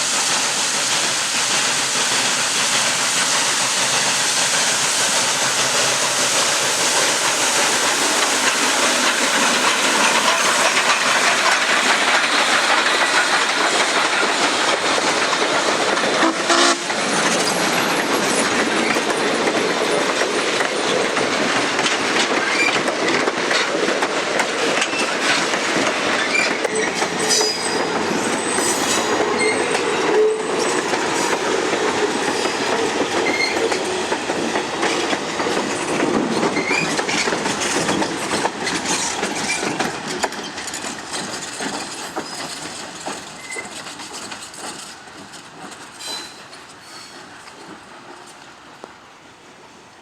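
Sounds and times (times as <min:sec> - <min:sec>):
train wheels clicking over rail joints: 0:00.0 - 0:49.0.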